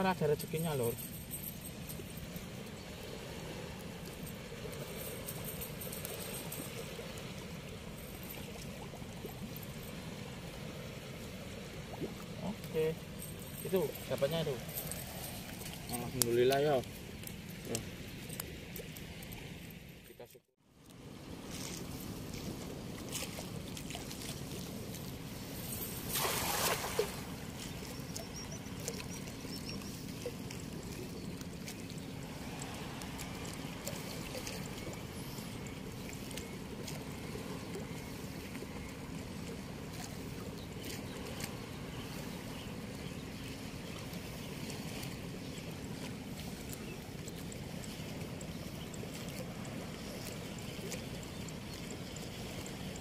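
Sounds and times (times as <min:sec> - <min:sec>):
flowing water rushing: 0:00.0 - 0:19.9, 0:21.2 - 0:53.0
low steady hum: 0:00.0 - 0:53.0.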